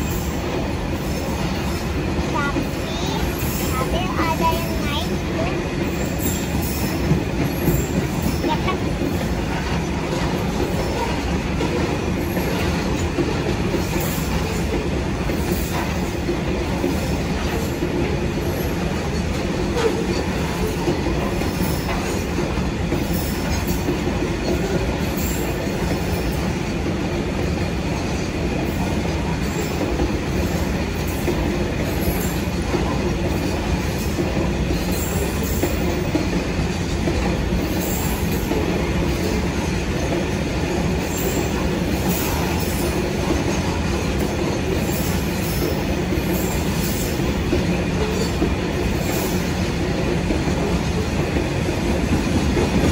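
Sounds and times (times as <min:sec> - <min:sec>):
train wheels rumbling on track: 0:00.0 - 0:52.9.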